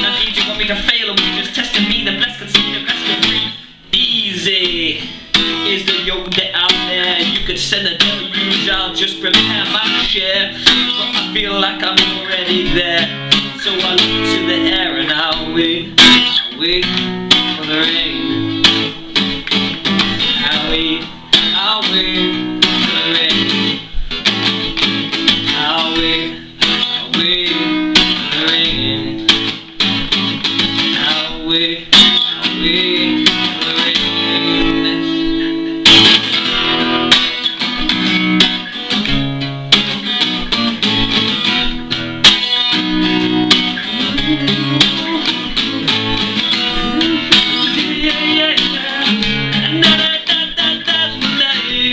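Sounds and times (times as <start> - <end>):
acoustic guitar music: 0.0 - 51.9.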